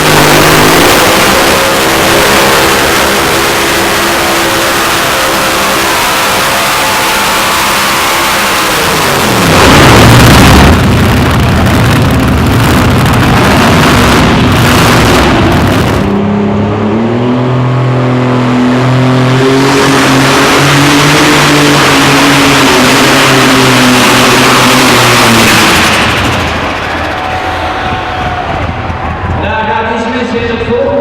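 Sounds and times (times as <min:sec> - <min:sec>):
tractor engine at full power: 0:00.0 - 0:31.0.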